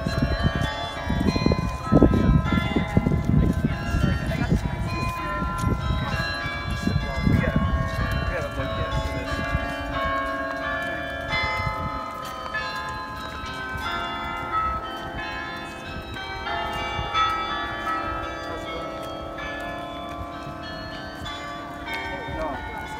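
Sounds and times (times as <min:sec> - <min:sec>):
carillon bells playing a tune: 0:00.0 - 0:22.9.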